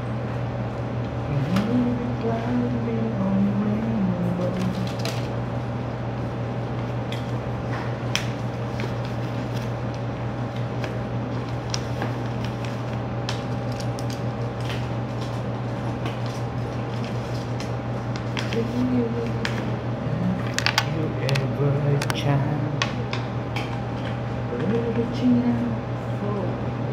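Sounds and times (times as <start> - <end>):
low machine hum: 0.0 - 26.9.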